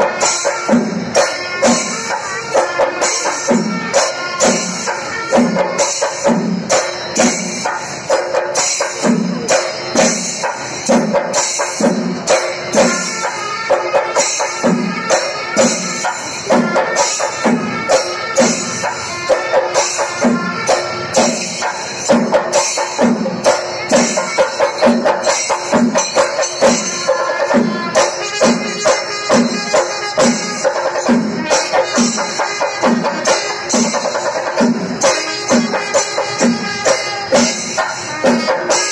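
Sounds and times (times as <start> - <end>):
jingling cymbals: 0.0 - 38.9
steady drum beat: 0.0 - 38.9.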